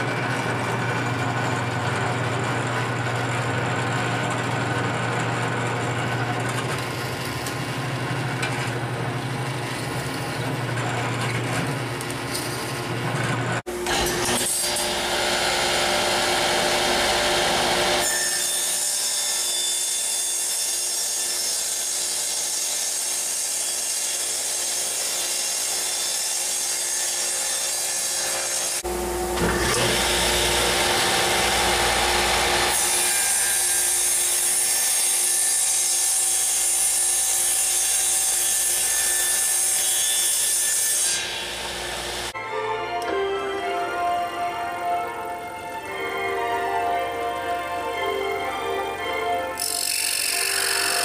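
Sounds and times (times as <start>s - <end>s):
table saw cutting plywood: 0.0s - 42.4s, 44.8s - 51.0s.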